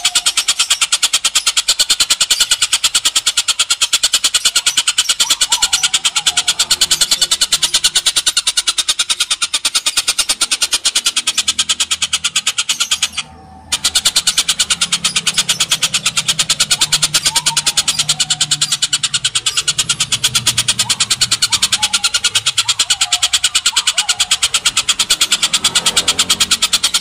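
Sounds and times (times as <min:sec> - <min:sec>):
bird harsh chattering call: 0:00.0 - 0:27.0.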